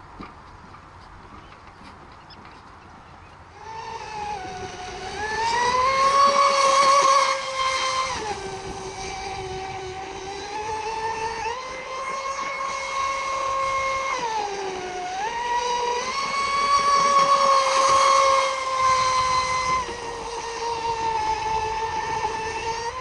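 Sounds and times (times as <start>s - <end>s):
model boat motor whine: 0.0s - 23.0s.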